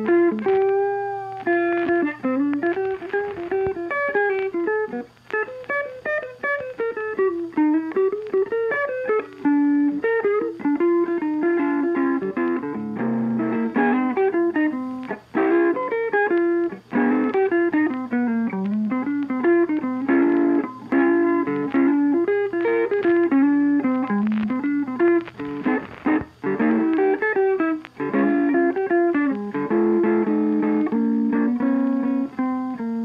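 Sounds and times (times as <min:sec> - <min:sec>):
guitar picking melody: 0:00.0 - 0:33.0.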